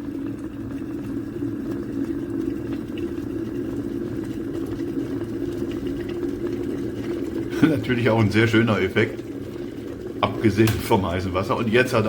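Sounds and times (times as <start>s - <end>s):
kettle water boiling and bubbling: 0.0s - 12.0s.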